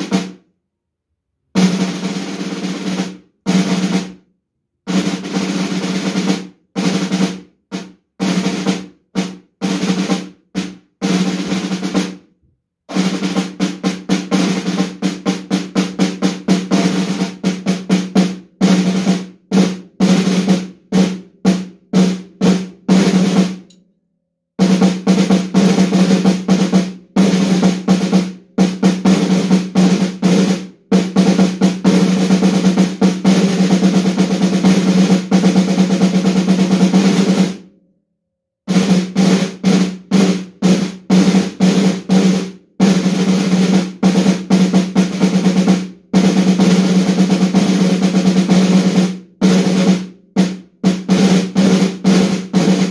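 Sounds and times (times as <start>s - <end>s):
snare drum rolls: 0.0s - 0.4s, 1.6s - 4.2s, 4.9s - 12.2s, 12.9s - 23.7s, 24.6s - 37.7s, 38.7s - 52.9s.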